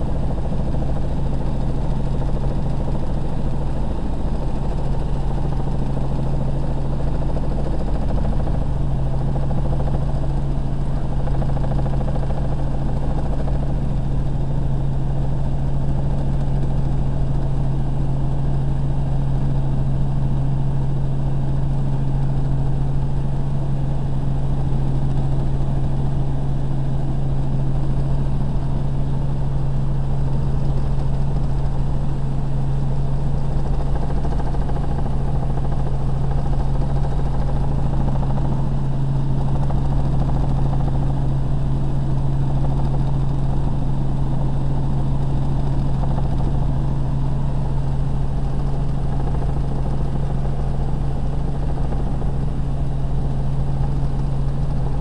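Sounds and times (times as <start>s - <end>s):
helicopter in flight from cabin: 0.0s - 55.0s.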